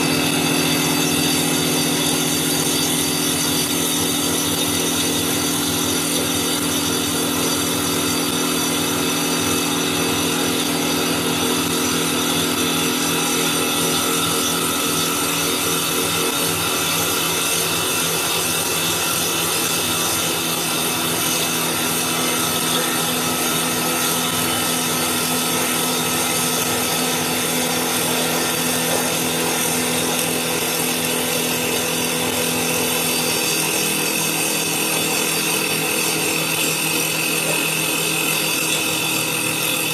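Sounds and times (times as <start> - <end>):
motor hum: 0.0 - 38.4
saw blade cutting wood: 0.0 - 39.9.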